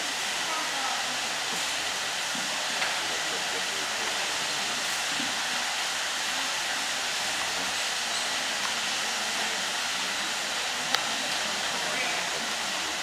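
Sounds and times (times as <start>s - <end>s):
rushing air hiss: 0.0s - 13.0s.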